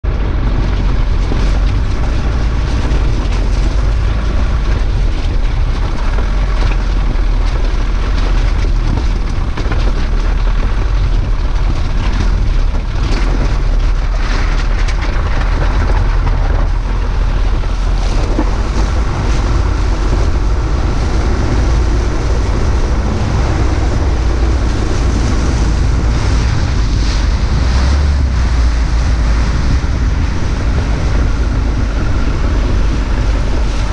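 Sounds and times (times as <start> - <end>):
gravel crackling: 0.0 - 33.9
tyres rumbling on stones: 0.0 - 33.9
water splashing under wheels: 0.0 - 33.9
wind buffeting microphone: 0.0 - 33.9.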